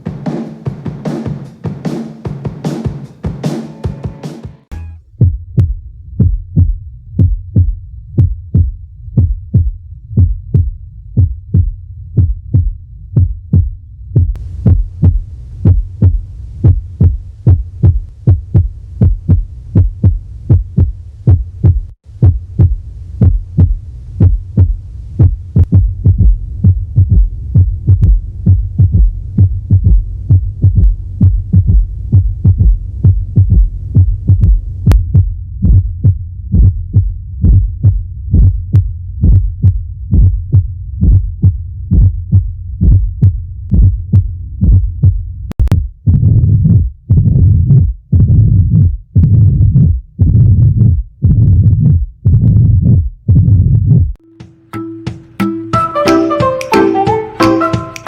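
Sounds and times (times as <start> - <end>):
heartbeat through stethoscope: 5.2 - 54.2.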